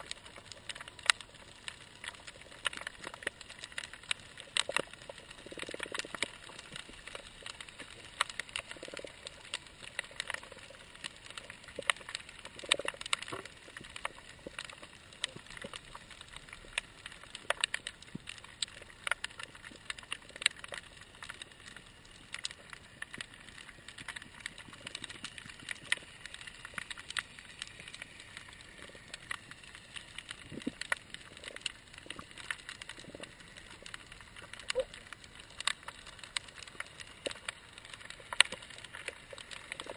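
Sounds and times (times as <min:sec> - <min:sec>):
snapping shrimp crackle: 0:00.0 - 0:39.9.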